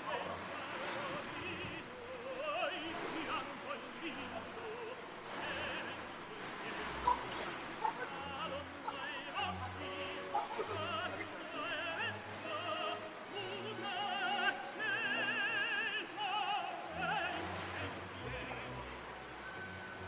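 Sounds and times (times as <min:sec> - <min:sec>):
high operatic singing: 0:00.0 - 0:20.0.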